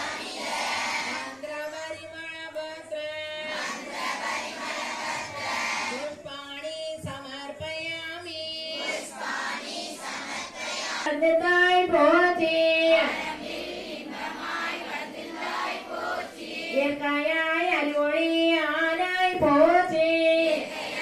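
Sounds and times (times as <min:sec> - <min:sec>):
women and children singing: 0:00.0 - 0:21.0.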